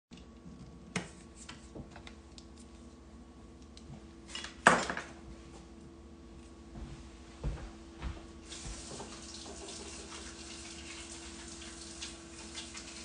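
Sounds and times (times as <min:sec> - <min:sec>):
faint steady hum: 0:00.1 - 0:13.0.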